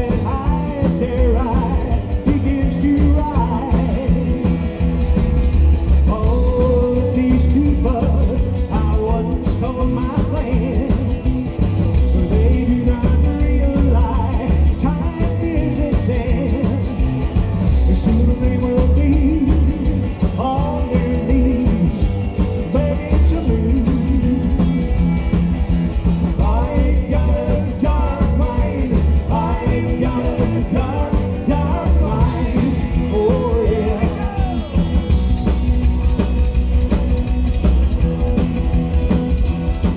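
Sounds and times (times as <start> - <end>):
man singing: 0.0 - 4.6, 6.0 - 17.1, 17.7 - 25.4, 26.3 - 35.1
drums: 0.0 - 39.9
electric guitar: 0.0 - 39.9.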